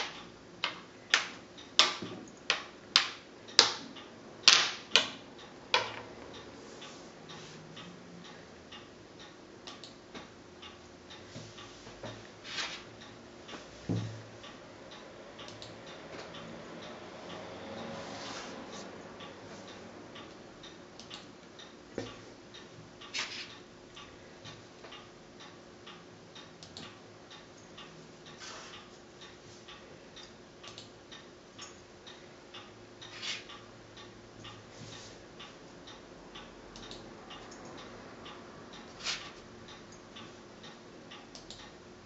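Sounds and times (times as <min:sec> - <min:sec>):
clock ticking: 0:00.0 - 0:17.9, 0:18.6 - 0:42.0.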